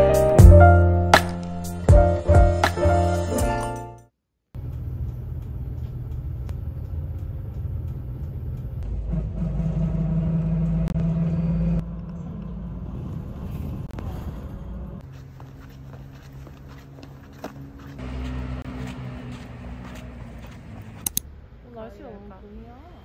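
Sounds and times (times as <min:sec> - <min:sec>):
bus engine rumble: 0:04.6 - 0:23.0
road noise: 0:04.6 - 0:23.0.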